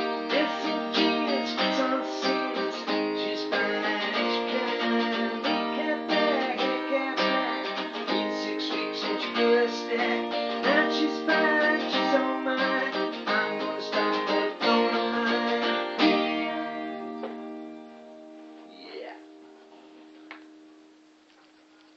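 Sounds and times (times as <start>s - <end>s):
guitar strumming chords: 0.0s - 21.1s.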